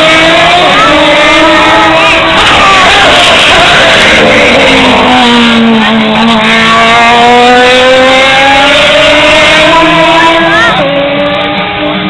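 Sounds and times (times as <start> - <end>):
truck diesel engine accelerating: 0.0 - 12.0.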